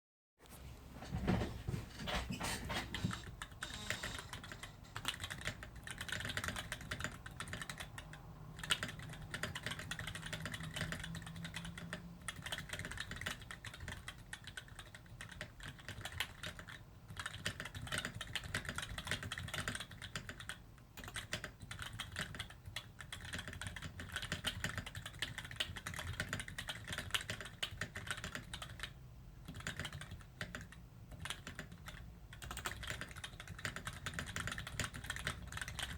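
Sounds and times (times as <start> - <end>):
mechanical keyboard typing: 3.2 - 35.9.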